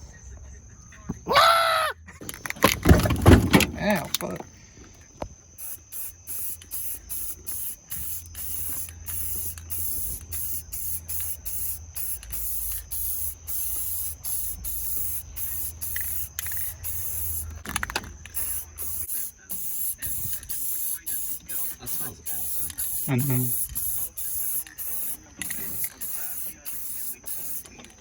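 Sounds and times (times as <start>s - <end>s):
spray paint can hissing: 5.6s - 28.0s.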